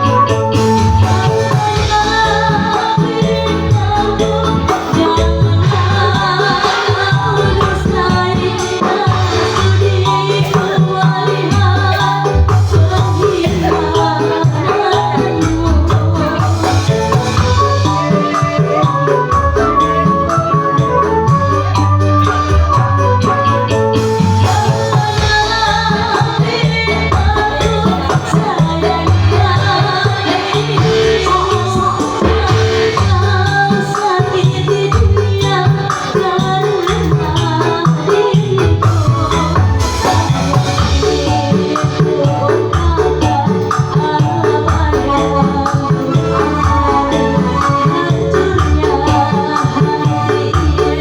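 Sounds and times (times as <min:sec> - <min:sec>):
music with beat and bass: 0:00.0 - 0:51.0.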